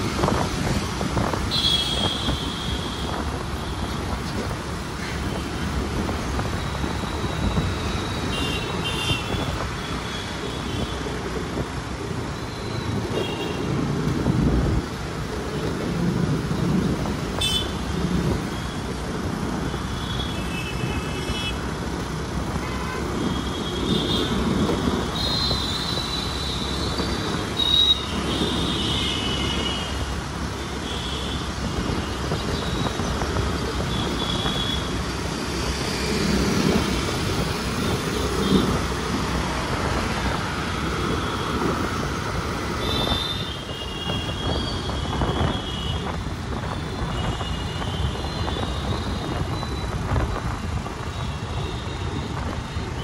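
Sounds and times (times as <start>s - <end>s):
traffic rumble: 0.0s - 53.0s.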